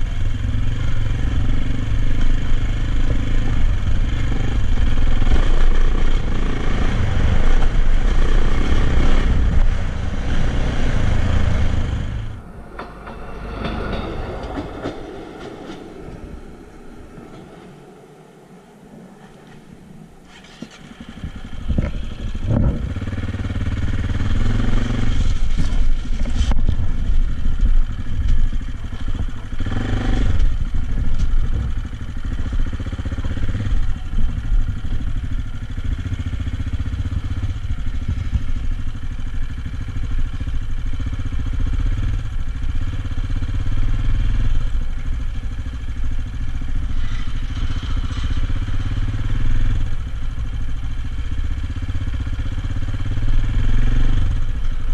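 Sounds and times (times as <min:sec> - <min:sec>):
motorcycle engine running: 0:00.0 - 0:16.6, 0:17.3 - 0:54.9
engine clatter: 0:00.0 - 0:54.9.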